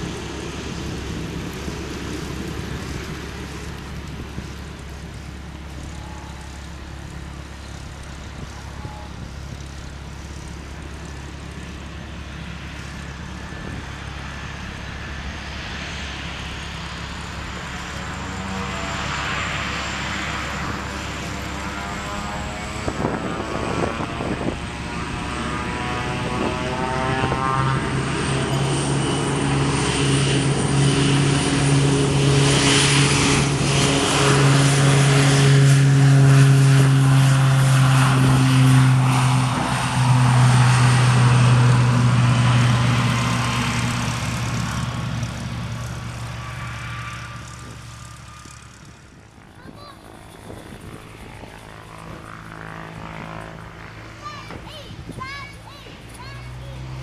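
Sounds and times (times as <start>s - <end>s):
high turbine whine: 0.0s - 57.0s
propeller drone: 0.0s - 57.0s.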